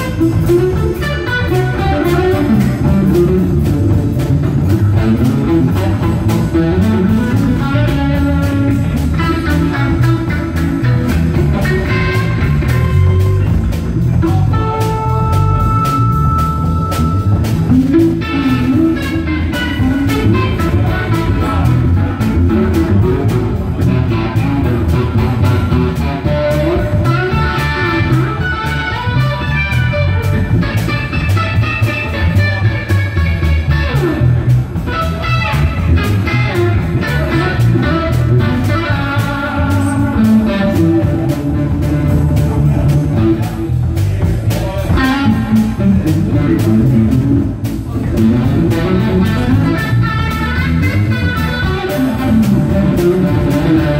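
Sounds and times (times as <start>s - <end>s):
electric guitar lead bending notes: 0.0s - 53.9s
live rock band playing: 0.0s - 53.9s.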